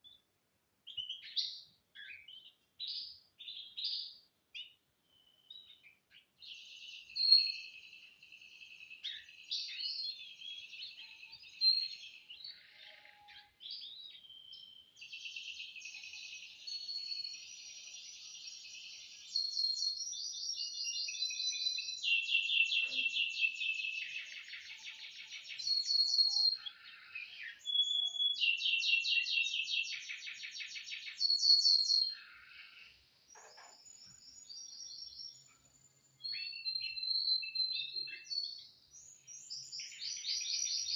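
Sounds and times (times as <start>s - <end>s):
canary singing trills: 0.9s - 40.9s.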